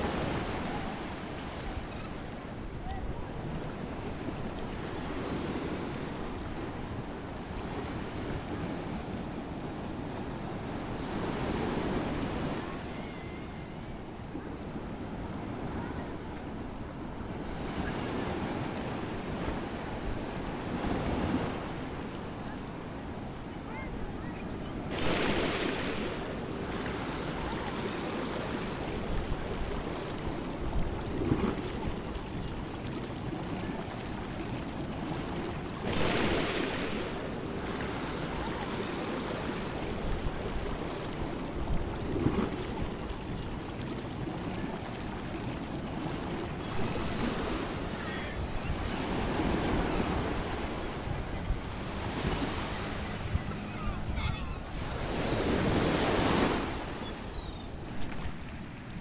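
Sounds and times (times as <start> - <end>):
waves crashing: 0.0 - 59.0
waves washing: 0.0 - 59.0.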